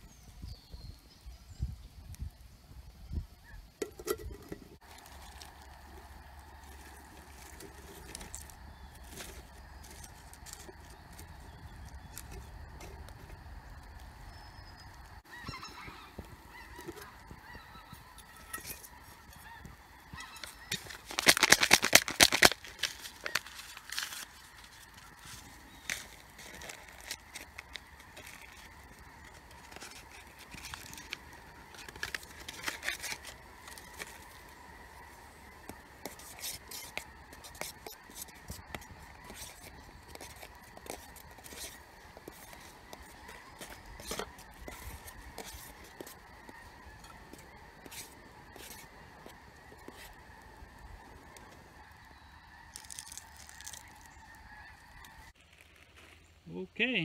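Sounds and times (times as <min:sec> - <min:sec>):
twig fire crackling: 0:03.6 - 0:56.6.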